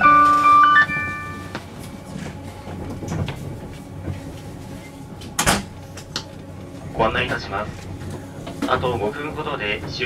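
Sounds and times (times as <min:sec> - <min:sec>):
train car rumbling: 0:00.0 - 0:10.0.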